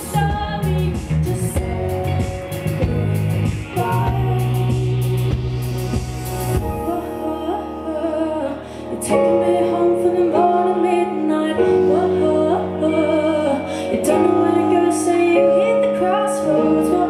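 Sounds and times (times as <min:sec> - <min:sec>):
woman singing: 0:00.0 - 0:05.6, 0:06.6 - 0:17.0
live rock band playing: 0:00.0 - 0:17.0.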